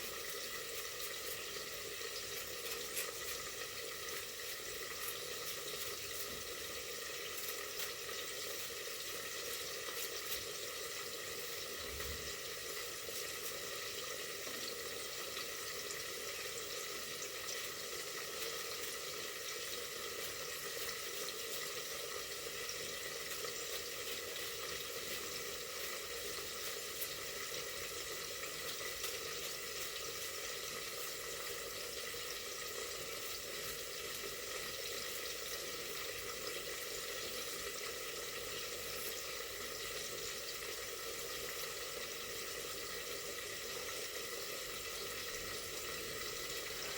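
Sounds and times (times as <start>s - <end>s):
food frying in hot oil: 0.0s - 46.9s.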